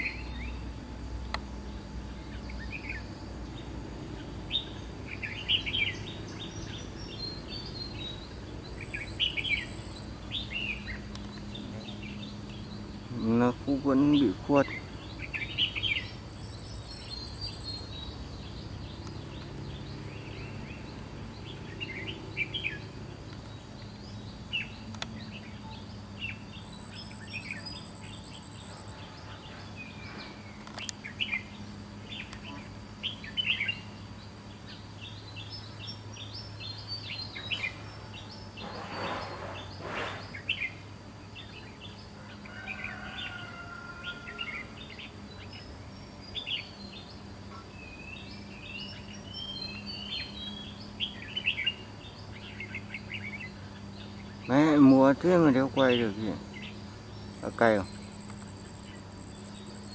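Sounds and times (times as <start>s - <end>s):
birds chirping and whistling: 0.0s - 59.9s.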